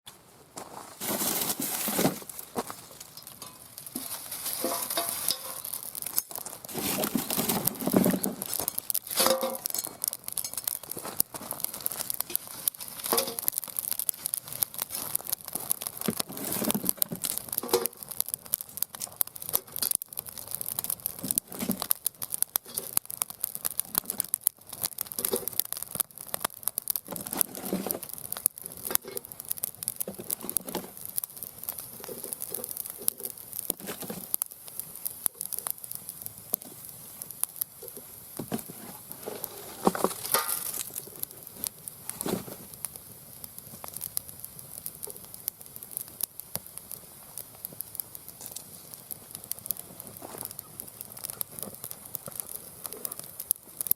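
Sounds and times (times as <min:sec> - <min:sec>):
firewood crackling and popping: 0:00.1 - 0:53.9
fire squealing: 0:01.4 - 0:53.9.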